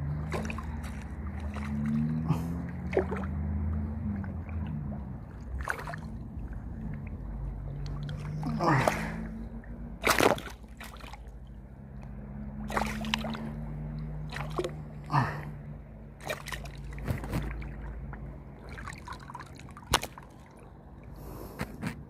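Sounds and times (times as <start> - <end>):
low steady hum: 0.0 - 22.0
water sloshing against a boat: 0.0 - 22.0.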